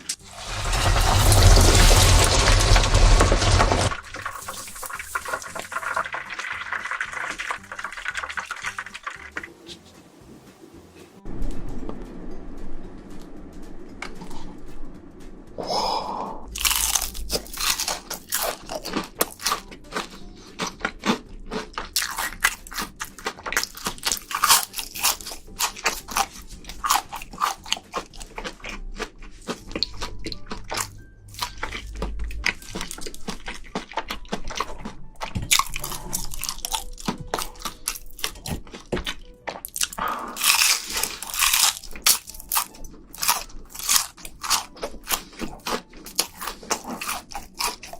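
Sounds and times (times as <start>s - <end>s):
biting and chewing crunchy food: 0.0s - 9.5s, 16.5s - 47.9s.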